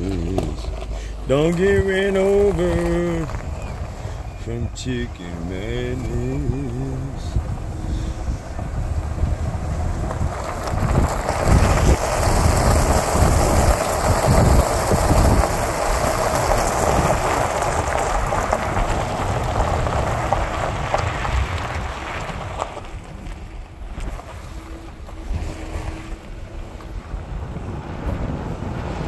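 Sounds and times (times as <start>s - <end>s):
tyres rolling on gravel: 0.0s - 29.0s
wind buffeting microphone: 0.0s - 29.0s.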